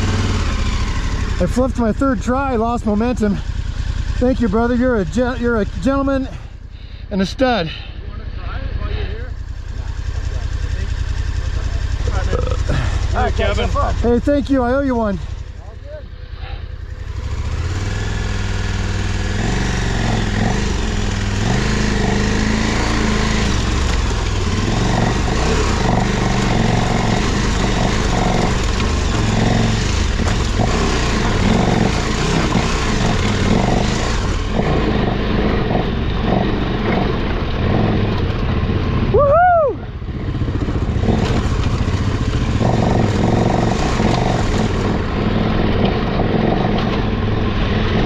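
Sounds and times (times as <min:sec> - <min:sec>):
motorcycle engine labouring: 0:00.0 - 0:48.0.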